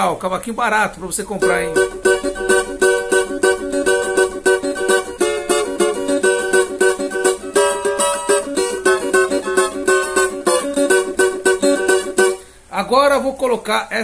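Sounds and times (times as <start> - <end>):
acoustic strumming small guitar: 1.4 - 13.3.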